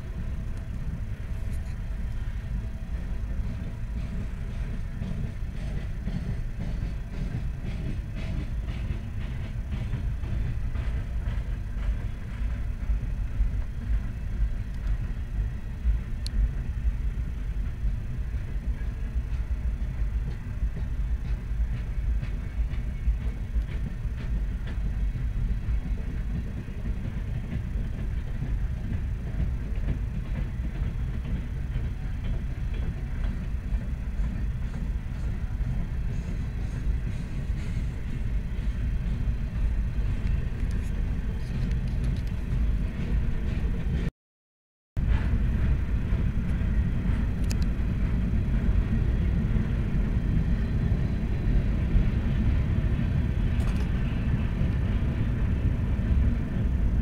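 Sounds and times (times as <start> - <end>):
freight train rumbling past: 0.0 - 44.1, 45.0 - 57.0.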